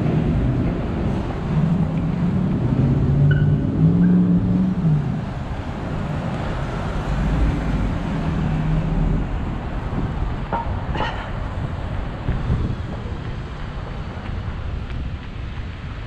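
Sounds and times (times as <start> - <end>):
low traffic rumble: 0.0 - 16.0
vehicle engines running: 0.0 - 16.0.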